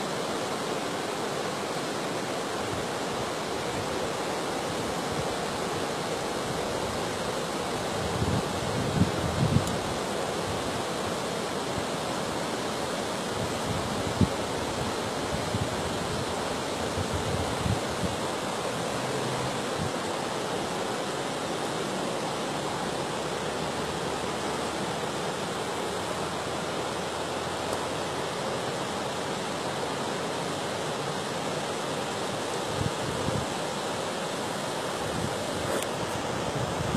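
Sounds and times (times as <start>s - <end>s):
rushing floodwater: 0.0s - 36.9s.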